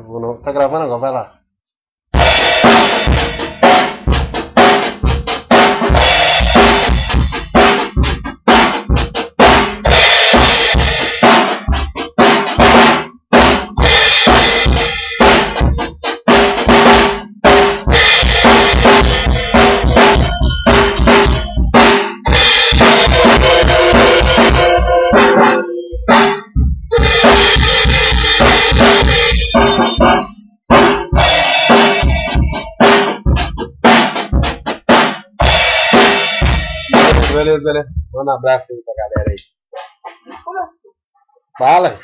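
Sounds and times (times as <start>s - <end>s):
bass drum and snare hits: 2.2s - 38.2s.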